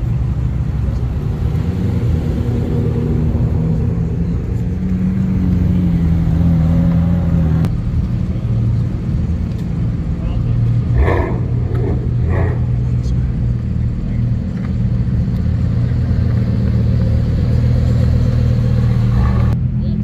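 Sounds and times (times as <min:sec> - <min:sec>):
car engine running at low revs: 0:00.0 - 0:20.0.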